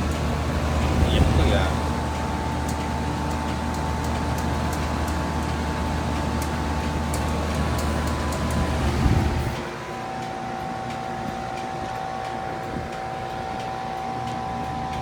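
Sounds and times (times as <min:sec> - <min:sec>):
heat pump humming and whining: 0:00.0 - 0:15.0.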